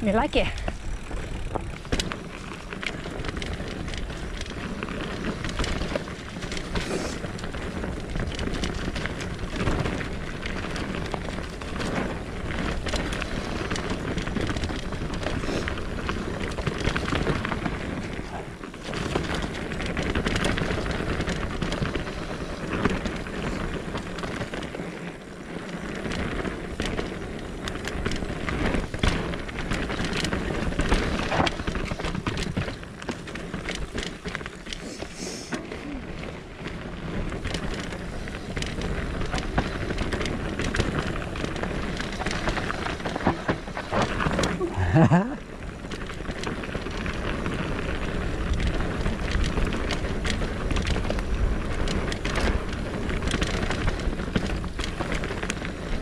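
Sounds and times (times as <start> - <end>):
bike rattling over roots: 0.0 - 56.0
bike tyres on dirt: 0.0 - 56.0.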